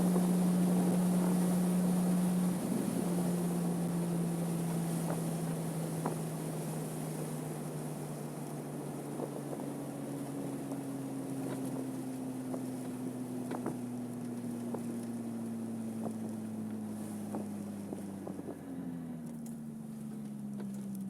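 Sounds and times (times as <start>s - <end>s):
car engine running: 0.0s - 21.0s
wind and road noise: 0.0s - 21.0s.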